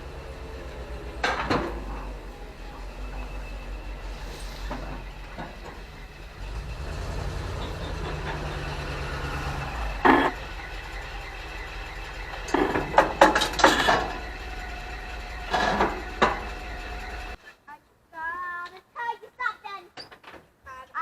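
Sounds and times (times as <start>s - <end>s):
truck engine idling: 0.0s - 17.4s.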